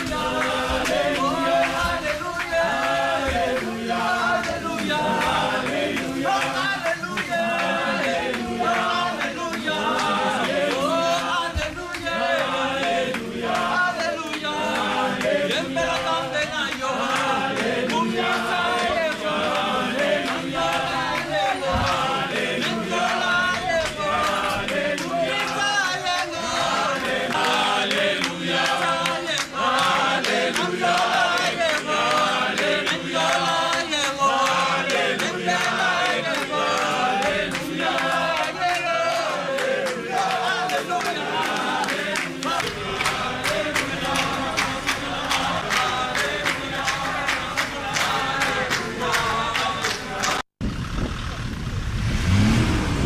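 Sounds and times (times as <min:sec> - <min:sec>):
crowd singing in chorus: 0:00.0 - 0:50.5.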